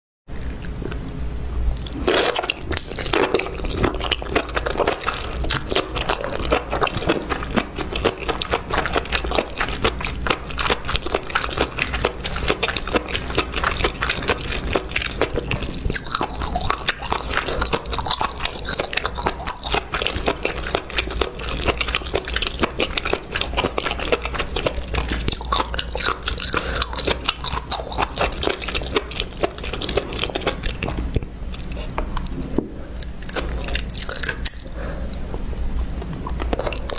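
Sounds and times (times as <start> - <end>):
person chewing crunchy food: 0.3 - 36.9.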